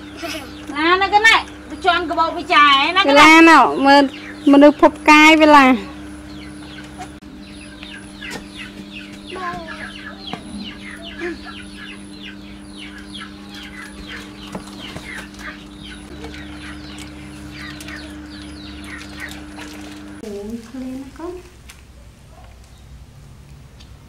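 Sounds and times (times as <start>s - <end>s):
many birds chirping: 0.0s - 21.4s
steady low hum: 0.0s - 24.0s.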